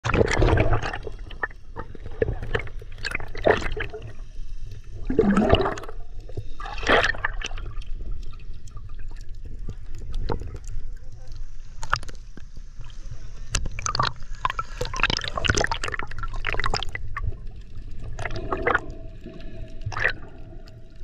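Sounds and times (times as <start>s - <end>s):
underwater water sloshing: 0.0s - 21.0s.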